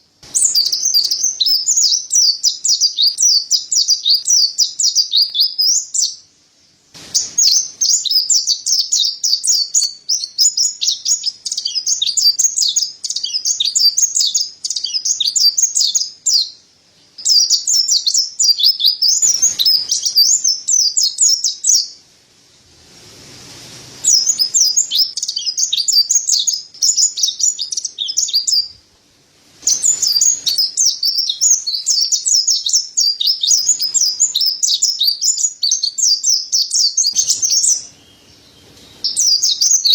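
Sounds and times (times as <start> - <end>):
bird high-pitched twittering: 0.0 - 6.3, 7.2 - 22.0, 24.0 - 28.8, 29.6 - 39.9.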